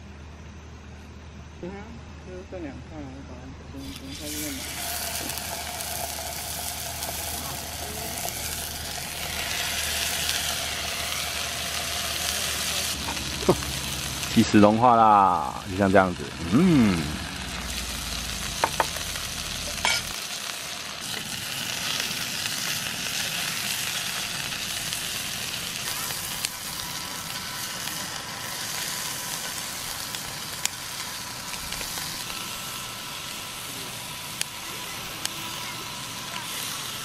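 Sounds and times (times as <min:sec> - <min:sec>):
meat sizzling in skillet: 0:03.8 - 0:37.0.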